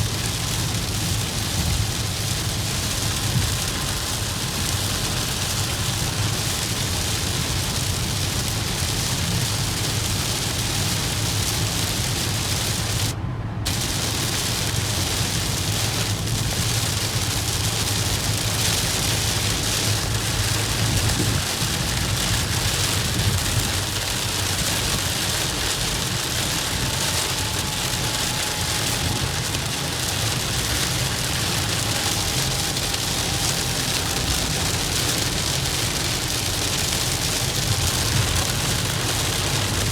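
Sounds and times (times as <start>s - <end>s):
engine and tyre hum: 0.0s - 39.9s
rain hitting a car: 0.0s - 39.9s.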